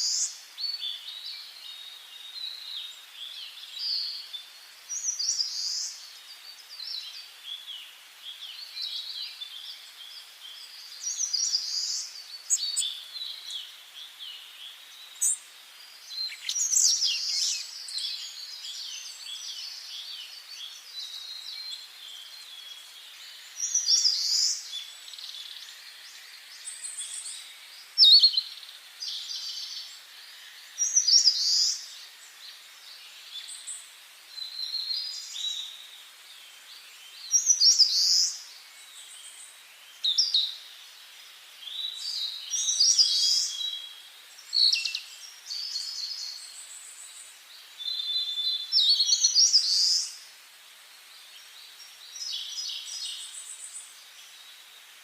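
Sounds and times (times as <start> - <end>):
faint steady hiss: 0.0 - 55.0
songbirds chirping and warbling: 0.0 - 55.0.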